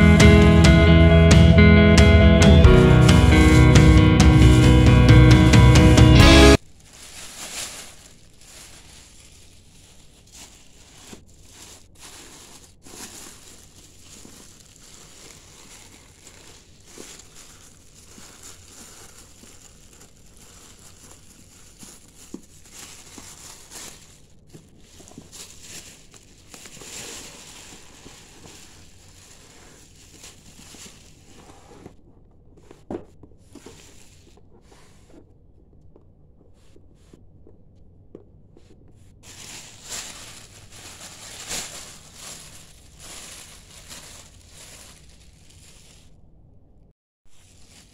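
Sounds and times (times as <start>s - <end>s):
plastic bag rustling: 2.2s - 32.0s, 32.8s - 35.3s, 39.2s - 46.2s, 47.3s - 47.9s.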